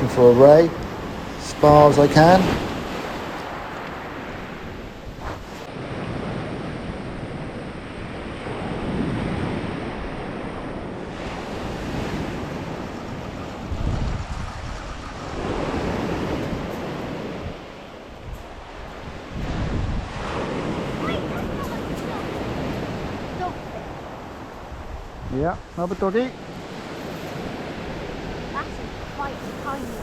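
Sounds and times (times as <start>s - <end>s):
sea waves breaking on beach: 0.0s - 30.0s
wind buffeting microphone: 0.0s - 30.0s.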